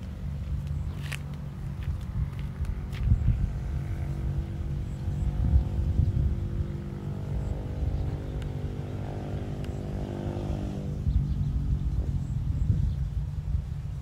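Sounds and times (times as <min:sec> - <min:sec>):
small engine droning: 0:00.0 - 0:14.0
wind rumble on microphone: 0:00.0 - 0:14.0.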